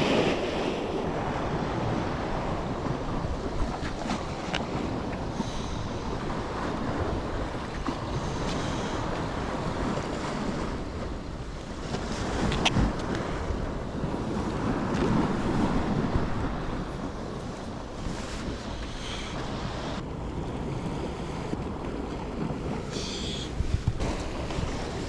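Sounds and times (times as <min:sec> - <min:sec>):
waves washing against shore: 0:00.0 - 0:25.0
wind buffeting microphone: 0:00.0 - 0:25.0.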